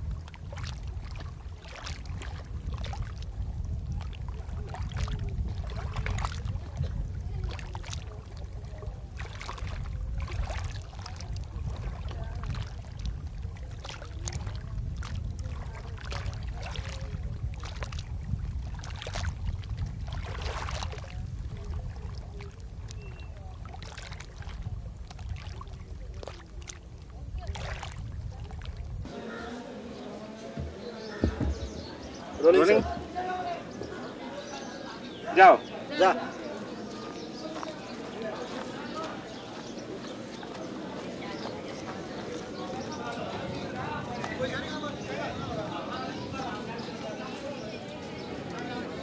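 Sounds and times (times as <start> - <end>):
water splashing against hull: 0.0 - 35.0, 35.8 - 49.0.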